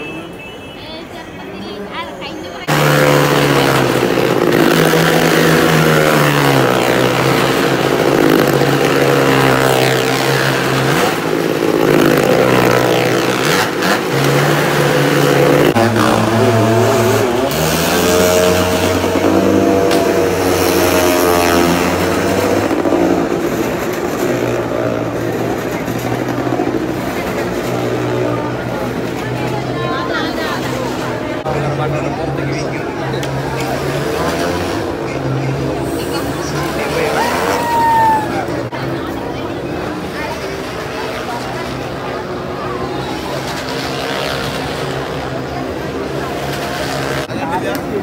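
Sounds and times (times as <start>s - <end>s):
motorcycle engines droning: 0.0s - 48.0s.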